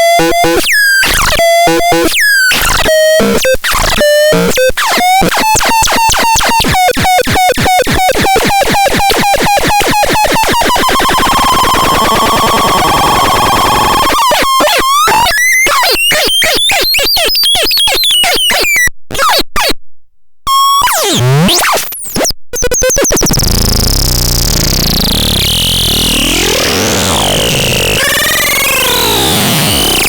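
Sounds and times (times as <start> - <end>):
synthesizer harsh electronic tones: 0.0 - 19.7, 20.5 - 30.0.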